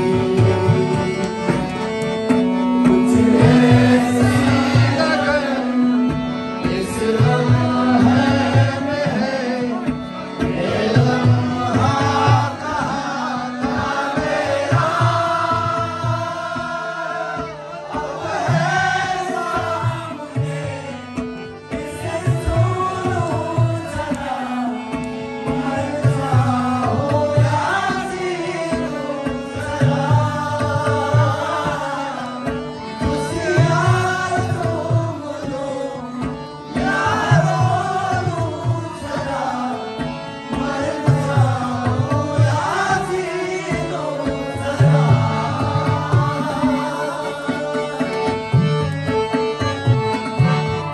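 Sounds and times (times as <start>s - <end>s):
man singing: 0.0s - 1.7s, 2.7s - 21.0s, 21.7s - 48.9s
harmonium chords: 0.0s - 50.9s.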